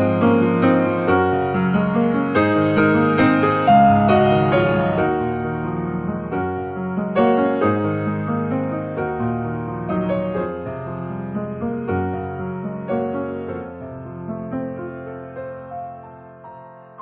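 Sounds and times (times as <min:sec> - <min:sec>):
gentle piano piece: 0:00.0 - 0:17.0.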